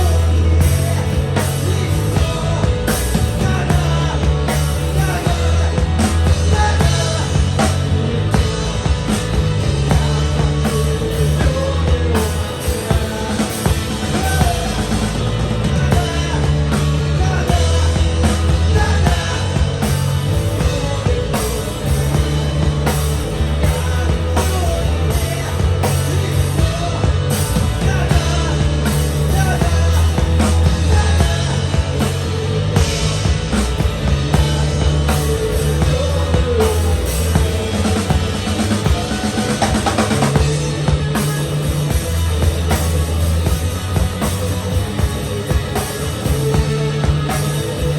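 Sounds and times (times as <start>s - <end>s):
bass guitar: 0.0s - 47.9s
drum kit: 0.0s - 47.9s
guitar: 0.0s - 47.9s
person singing: 0.0s - 47.9s.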